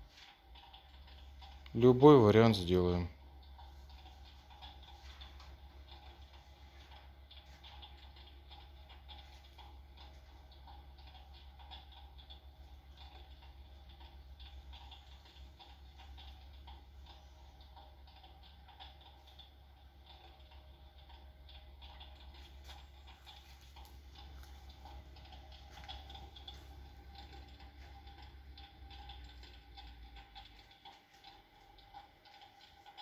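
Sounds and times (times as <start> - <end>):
electric fireplace low hum: 0.0 - 33.0
small irregular clicks: 0.0 - 33.0.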